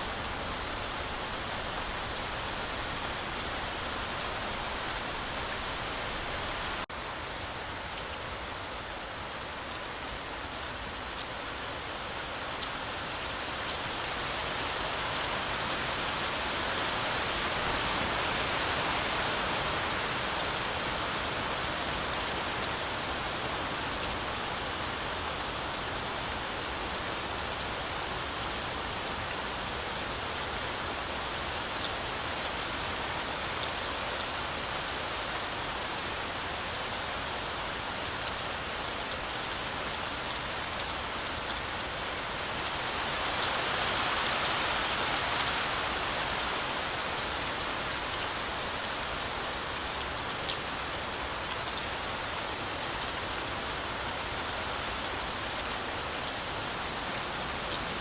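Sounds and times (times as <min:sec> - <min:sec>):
heavy rain through forest canopy: 0:00.0 - 0:58.0.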